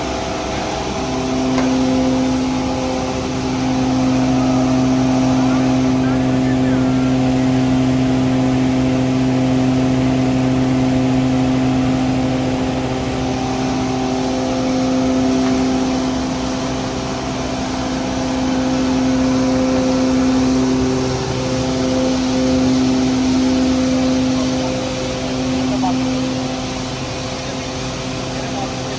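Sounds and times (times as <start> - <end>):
feed grinder machine hum: 0.0 - 28.9.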